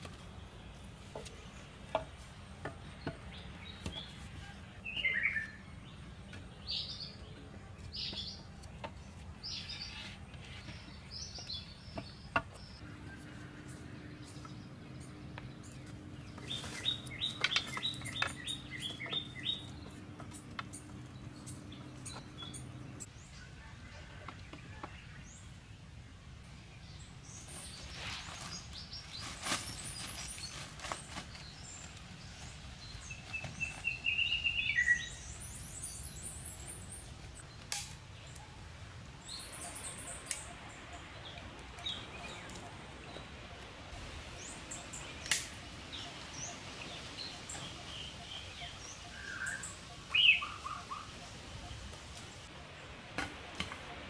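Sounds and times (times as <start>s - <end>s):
birds chirping: 0.1s - 23.4s, 26.8s - 54.0s.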